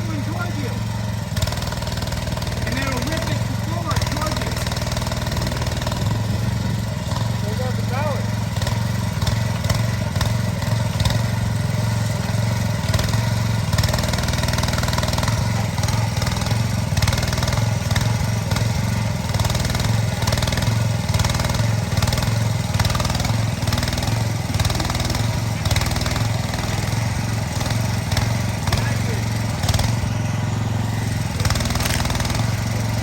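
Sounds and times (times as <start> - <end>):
small excavator engine running: 0.0 - 33.0.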